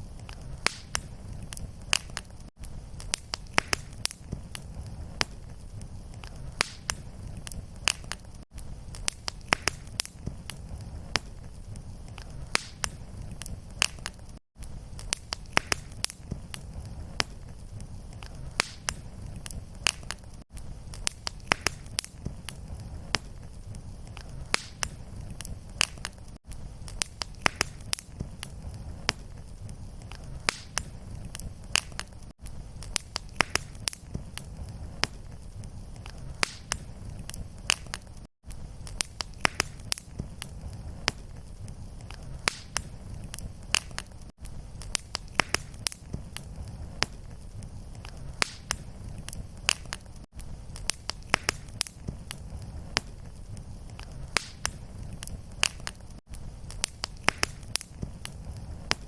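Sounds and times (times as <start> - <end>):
fire crackling and popping: 0.0 - 59.0
low rumble of flame: 0.0 - 59.0.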